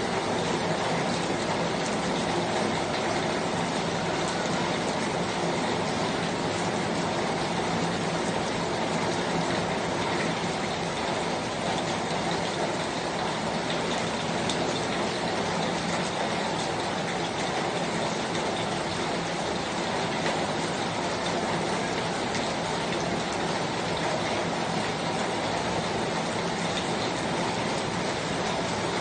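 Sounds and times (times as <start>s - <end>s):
rain hissing: 0.0s - 29.0s
raindrops ticking: 0.0s - 29.0s.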